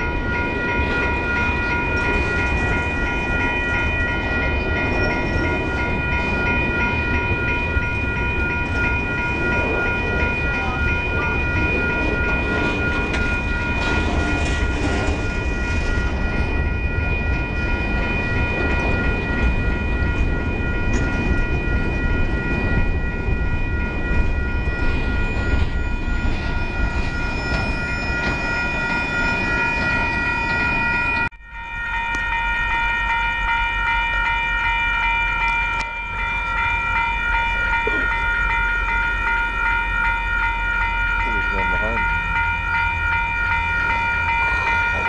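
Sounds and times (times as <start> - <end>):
crossing bell ringing: 0.0 - 45.0
train wheels on rails: 0.0 - 45.0.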